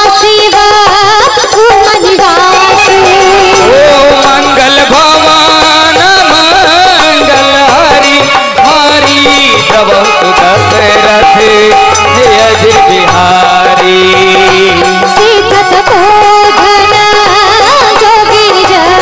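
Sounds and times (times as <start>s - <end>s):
dholak drum beat: 0.0s - 19.0s
keyboard melody with bending notes: 0.0s - 19.0s.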